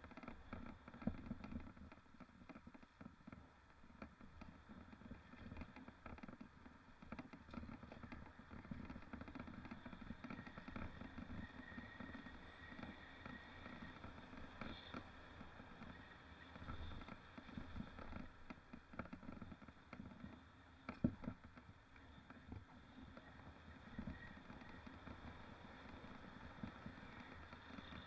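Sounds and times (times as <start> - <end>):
bike clicks and rattles: 0.0 - 28.0
low rumble of bike riding: 0.0 - 28.0.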